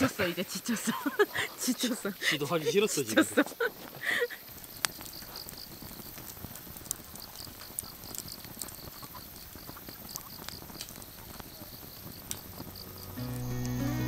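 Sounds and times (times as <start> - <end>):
campfire crackling and popping: 0.0 - 14.0
insects chirping: 0.0 - 14.0.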